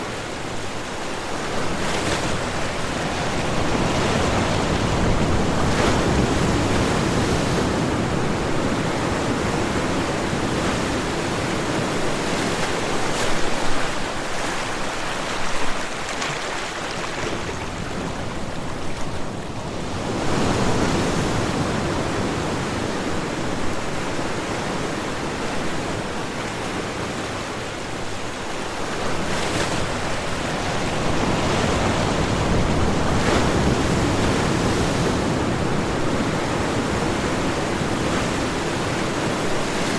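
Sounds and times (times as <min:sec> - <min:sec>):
waves washing ashore: 0:00.0 - 0:39.9.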